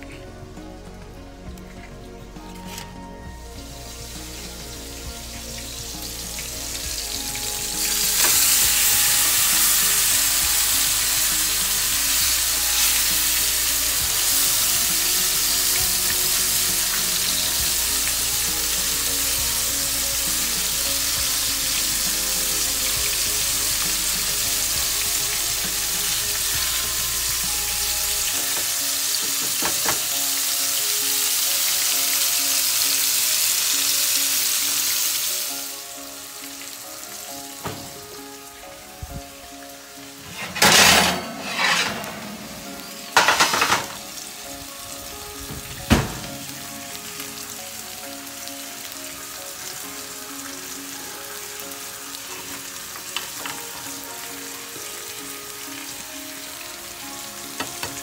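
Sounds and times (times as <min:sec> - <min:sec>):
meat sizzling in a frying pan: 0:03.5 - 0:58.0.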